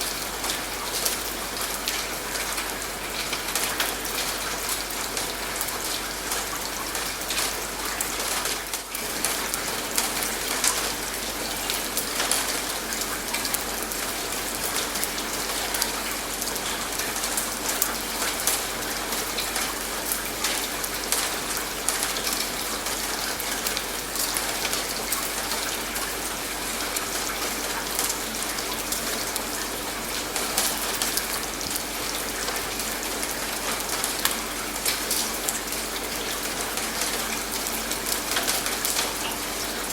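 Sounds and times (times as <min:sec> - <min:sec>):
raindrops ticking: 0:00.0 - 0:39.9
steady rainfall: 0:00.0 - 0:39.9.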